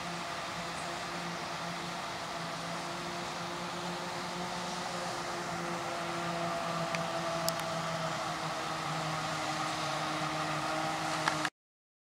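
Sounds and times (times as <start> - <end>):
machinery drone: 0.0 - 11.5.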